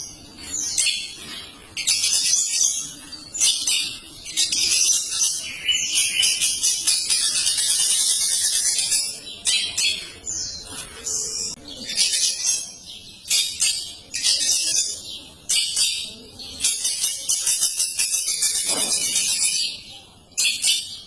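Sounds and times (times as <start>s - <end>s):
bird singing high chattering song: 0.0s - 21.0s.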